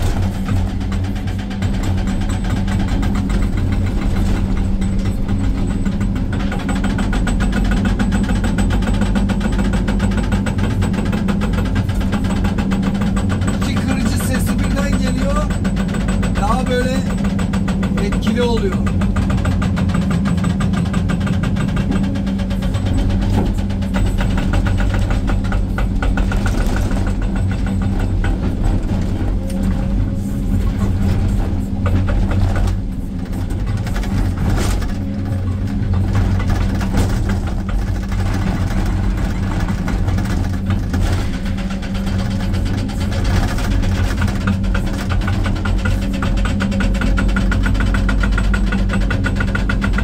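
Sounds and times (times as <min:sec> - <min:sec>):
diesel engine running: 0:00.0 - 0:50.0
hydraulic rock breaker hammering rock: 0:00.0 - 0:50.0.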